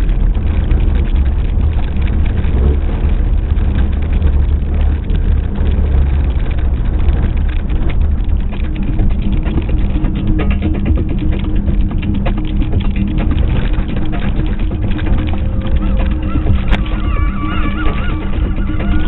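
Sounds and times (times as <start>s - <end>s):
car engine and tyres rumbling: 0.0s - 19.0s
gravel crackling under tyres: 0.0s - 19.0s.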